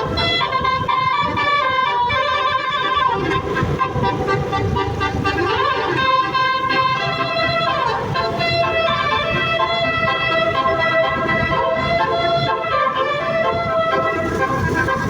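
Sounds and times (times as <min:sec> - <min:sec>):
musical bus horn tune: 0:00.0 - 0:15.0.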